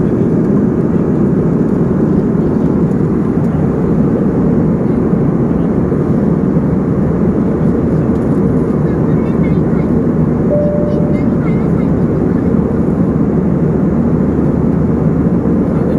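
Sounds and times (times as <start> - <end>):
airliner cabin engine rush: 0.0 - 15.9.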